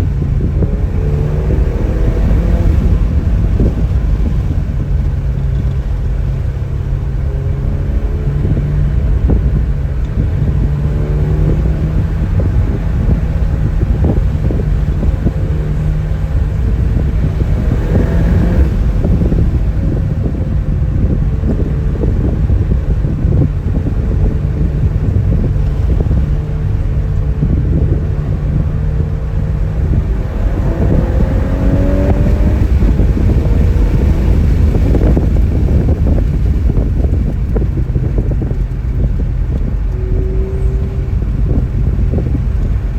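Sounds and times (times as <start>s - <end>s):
car engine running: 0.0s - 42.9s
road rumble: 0.0s - 42.9s.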